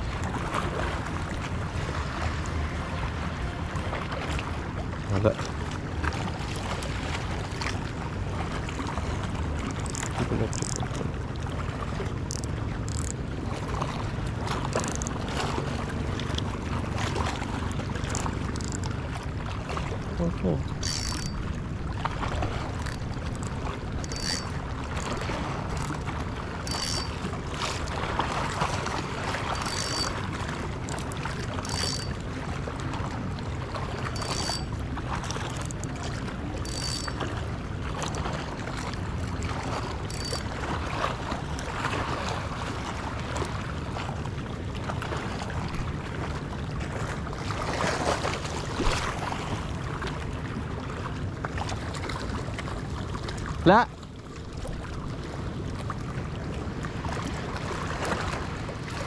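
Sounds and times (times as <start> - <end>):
wind and sea rumble: 0.0 - 59.0.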